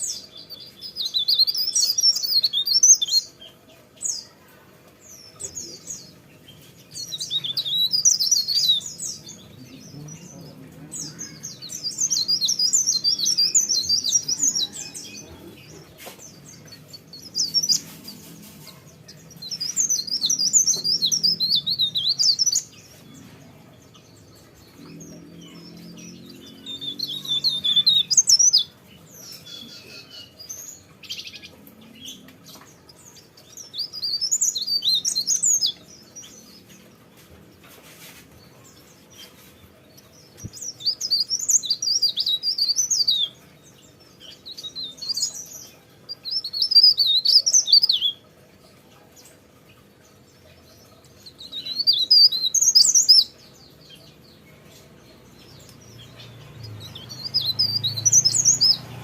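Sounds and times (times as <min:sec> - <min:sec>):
warbler singing: 0:00.0 - 0:59.0.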